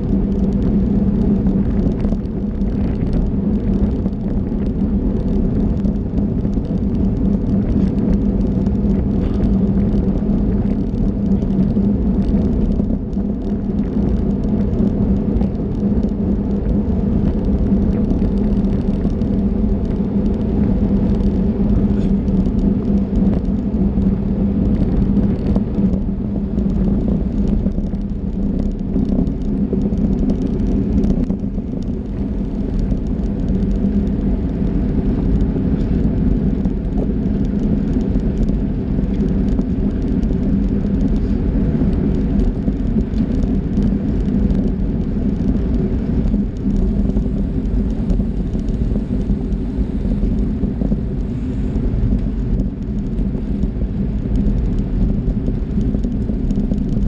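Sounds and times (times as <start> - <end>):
constant hum: 0.0 - 57.0
wind and road rumble: 0.0 - 57.0.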